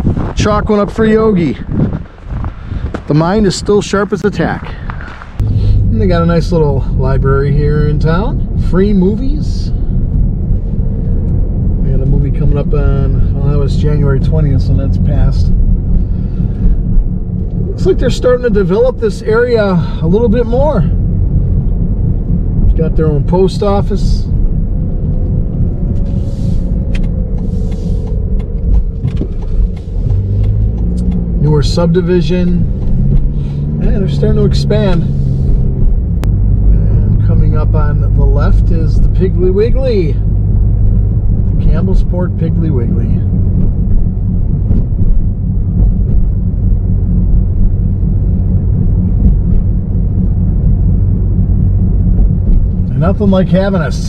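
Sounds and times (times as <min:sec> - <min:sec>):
road and engine rumble: 0:00.0 - 0:54.0.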